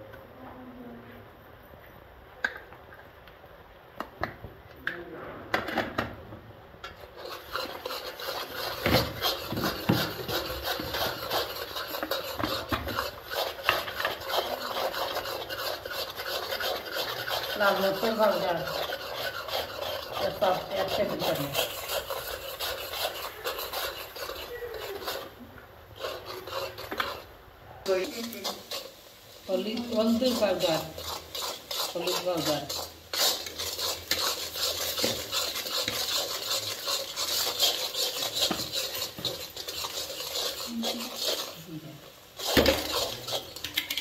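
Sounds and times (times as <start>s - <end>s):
spatula scraping a pan: 6.8s - 44.0s.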